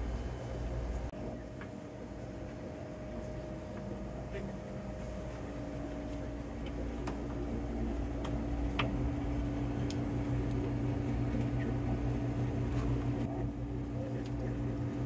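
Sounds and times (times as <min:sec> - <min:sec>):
refrigeration equipment humming: 0:00.0 - 0:15.0.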